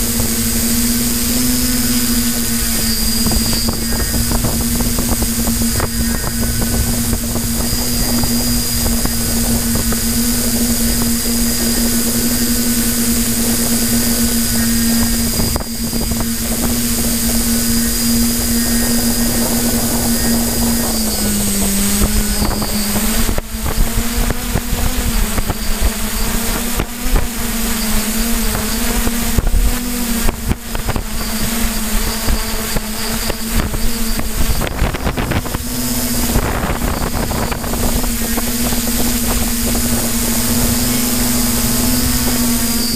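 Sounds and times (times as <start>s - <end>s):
drone motors whining: 0.0s - 42.9s
wind gusts on microphone: 0.0s - 42.9s.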